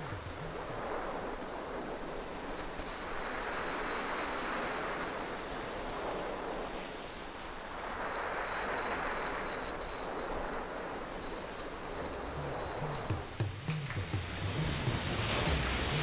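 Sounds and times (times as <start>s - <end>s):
surf rushing on a beach: 0.0s - 13.5s.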